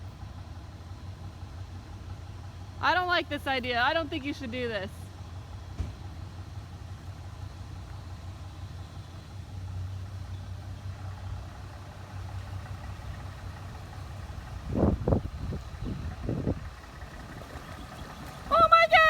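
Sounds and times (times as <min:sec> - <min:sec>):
truck engine running slowly: 0:00.0 - 0:19.0.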